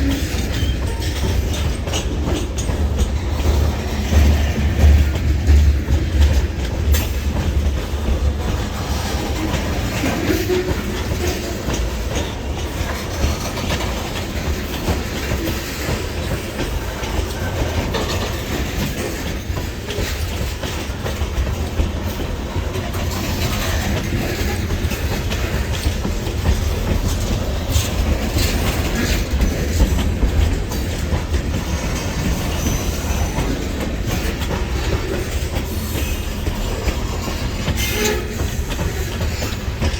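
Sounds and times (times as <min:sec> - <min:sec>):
freight train rolling past: 0:00.0 - 0:39.9
train wheels clacking on rail joints: 0:00.0 - 0:39.9.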